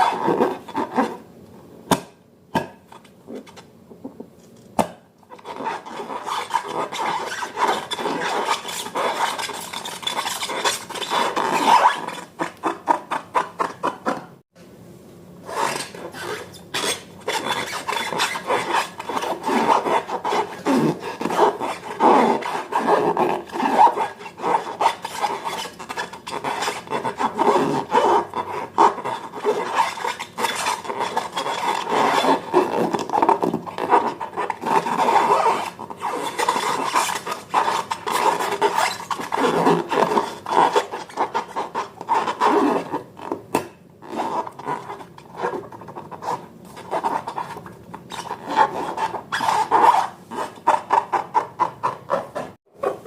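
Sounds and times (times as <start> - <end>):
slime scraping and rubbing: 0.0 - 1.2, 5.4 - 14.2, 15.4 - 43.4, 44.0 - 53.0.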